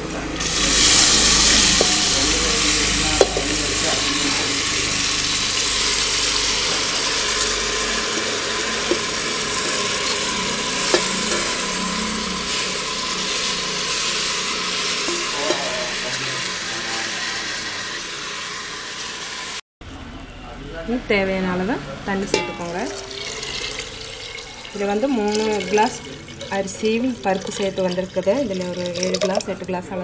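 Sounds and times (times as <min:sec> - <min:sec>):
steel bowl clinking: 0:00.4 - 0:18.5, 0:22.3 - 0:29.7
food sizzling in hot fat: 0:00.4 - 0:19.6, 0:22.3 - 0:29.6.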